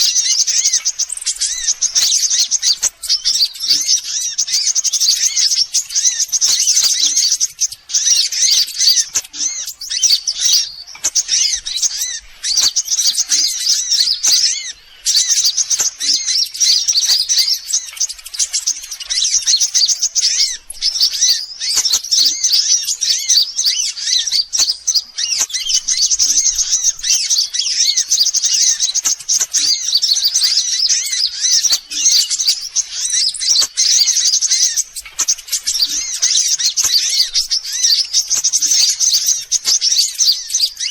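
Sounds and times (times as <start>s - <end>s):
birds twittering and trilling: 0.0s - 40.9s.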